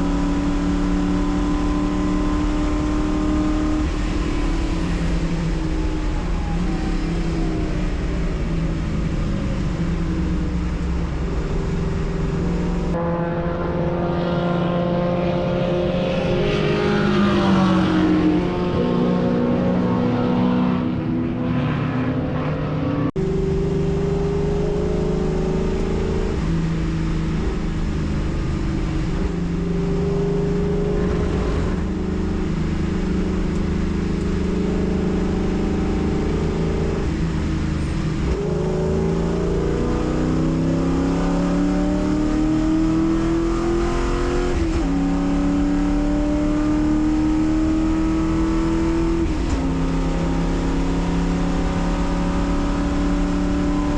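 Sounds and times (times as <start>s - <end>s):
race car engine revving through gears: 0.0s - 53.9s.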